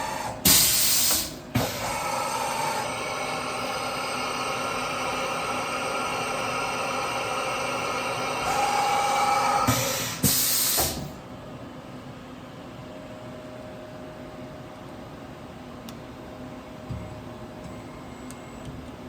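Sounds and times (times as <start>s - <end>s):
milling machine whine and hum: 0.0s - 19.0s.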